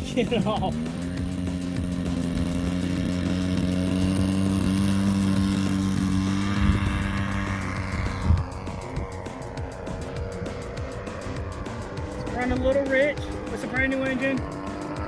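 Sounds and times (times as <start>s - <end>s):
model airplane engine at high throttle: 0.0s - 15.0s.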